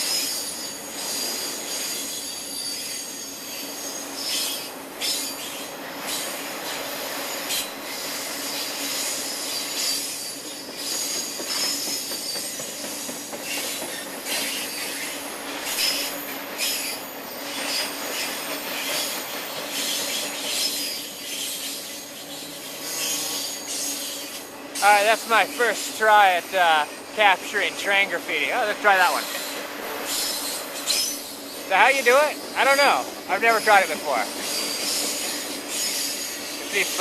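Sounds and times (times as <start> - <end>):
train wheels squealing: 0.0 - 27.2, 29.0 - 31.7, 32.3 - 37.0
train rumble: 0.0 - 37.0.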